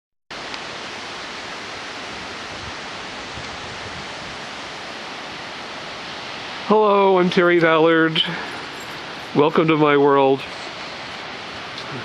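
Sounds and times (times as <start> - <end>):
strong storm wind: 0.4 - 12.0.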